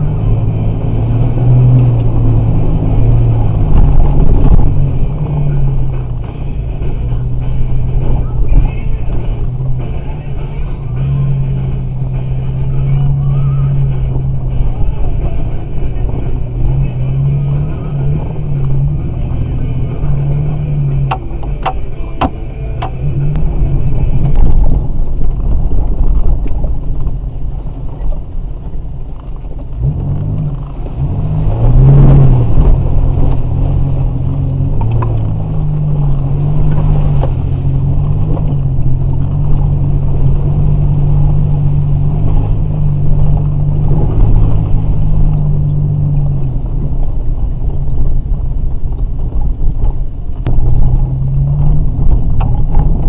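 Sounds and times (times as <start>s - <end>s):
car engine hum: 0.0s - 53.0s.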